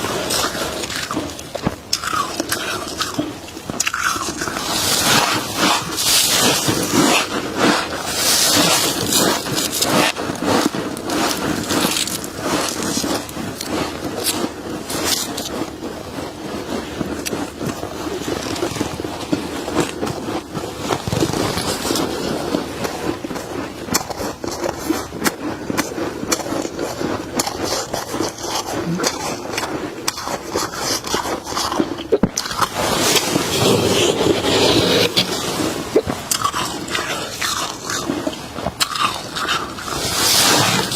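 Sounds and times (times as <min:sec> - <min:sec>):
freezer frost being scraped: 0:00.0 - 0:40.9.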